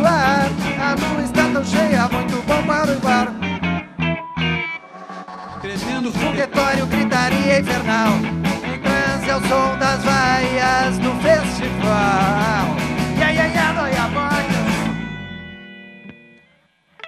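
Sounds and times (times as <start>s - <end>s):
live rock band playing: 0.0s - 16.3s.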